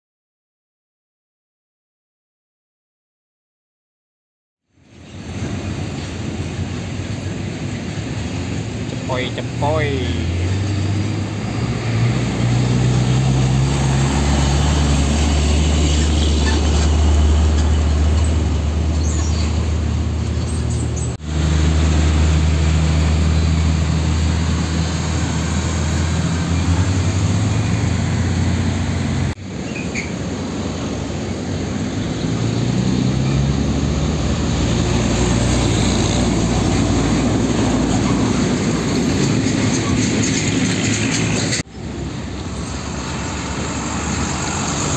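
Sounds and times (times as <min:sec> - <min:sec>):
diesel trucks driving past: 0:04.8 - 0:44.9.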